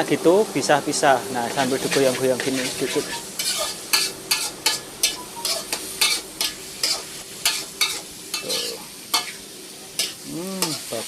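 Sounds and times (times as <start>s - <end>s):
vegetables sizzling in hot oil: 0.0s - 11.0s
stirring scrapes against pan: 1.4s - 11.0s.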